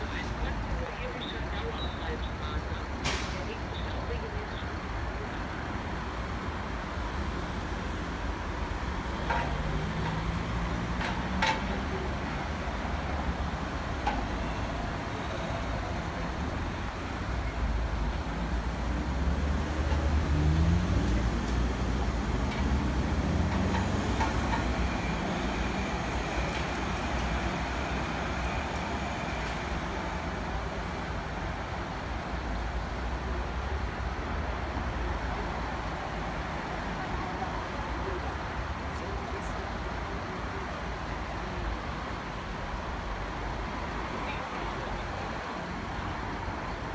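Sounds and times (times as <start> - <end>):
street traffic: 0.0 - 46.9.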